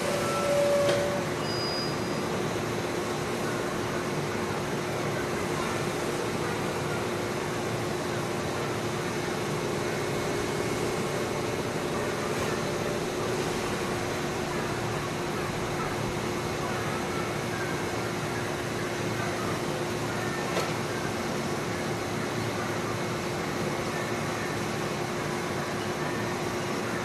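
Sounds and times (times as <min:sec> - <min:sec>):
train rolling slowly: 0:00.0 - 0:26.9.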